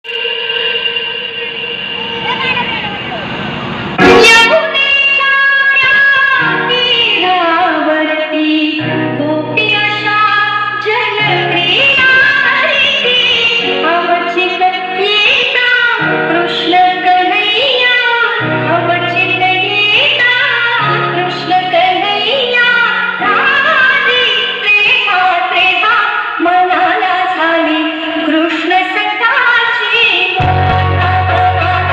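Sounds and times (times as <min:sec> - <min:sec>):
woman singing over loud backing music: 0:04.0 - 0:31.9.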